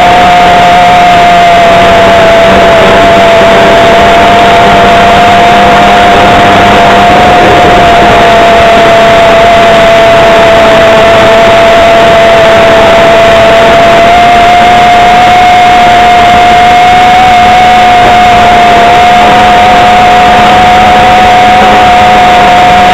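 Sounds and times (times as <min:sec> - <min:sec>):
model airplane engine whining: 0:00.0 - 0:22.9.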